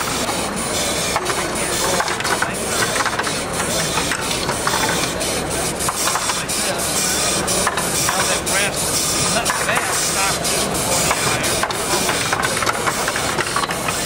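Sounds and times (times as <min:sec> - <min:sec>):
crowd chatter: 0:00.0 - 0:14.0
model engine clicking and ticking: 0:00.0 - 0:14.0.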